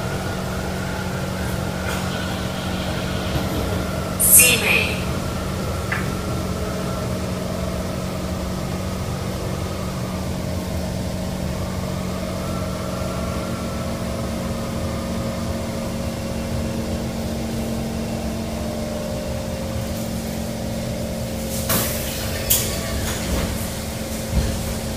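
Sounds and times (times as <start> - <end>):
train interior rumble and hum: 0.0 - 24.9.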